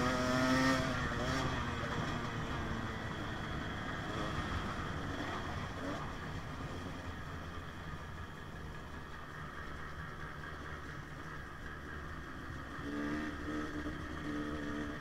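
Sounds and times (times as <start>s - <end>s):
two-stroke dirt bike engine: 0.0s - 15.0s.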